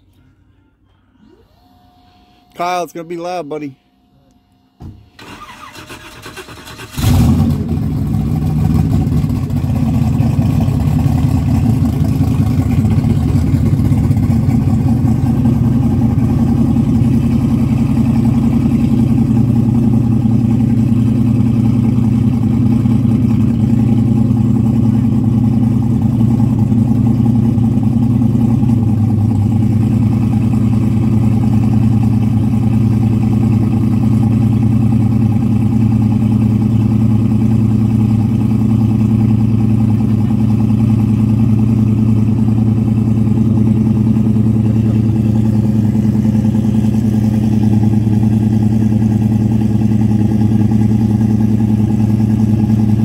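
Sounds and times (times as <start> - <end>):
car engine starting and idling: 1.1 - 3.7, 4.7 - 53.0.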